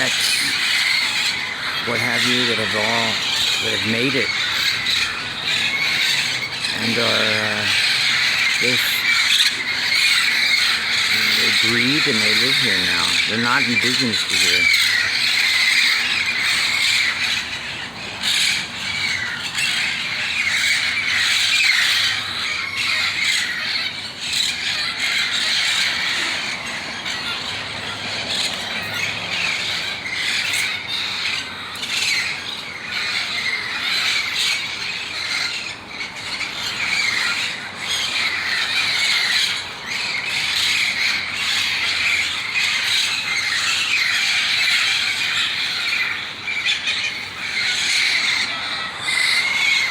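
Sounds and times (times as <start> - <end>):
parrots squawking and screeching: 0.0 - 49.9.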